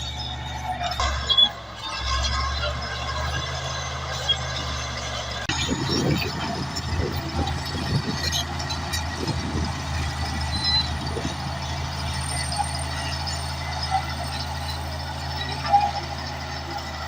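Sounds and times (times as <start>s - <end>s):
bulldozer diesel engine running: 0.0s - 17.0s
metal clanking and scraping: 0.0s - 17.0s.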